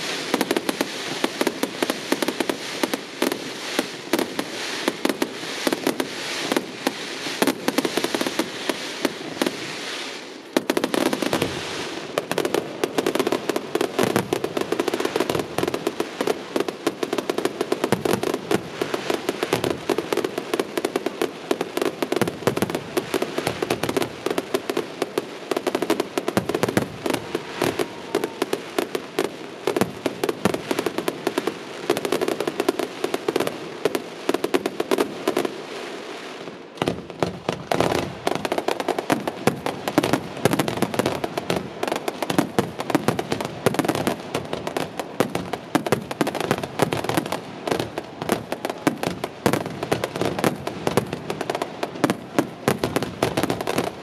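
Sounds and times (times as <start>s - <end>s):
fireworks crackling and popping: 0.0s - 54.0s.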